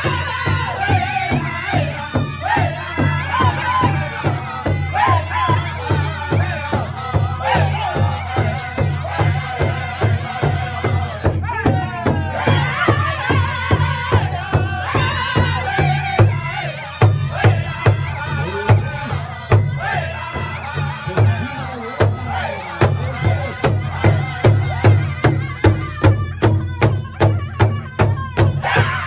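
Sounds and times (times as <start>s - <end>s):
group singing in unison: 0.0s - 29.0s.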